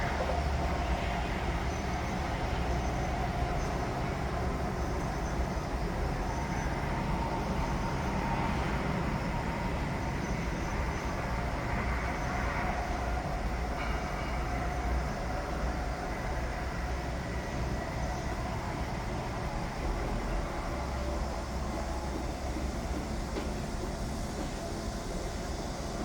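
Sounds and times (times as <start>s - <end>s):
construction machinery rumble: 0.0s - 26.0s.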